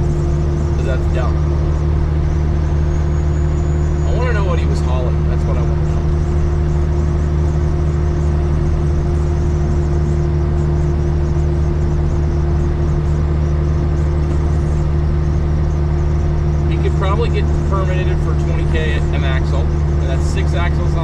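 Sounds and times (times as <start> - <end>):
truck diesel engine low drone: 0.0 - 21.0.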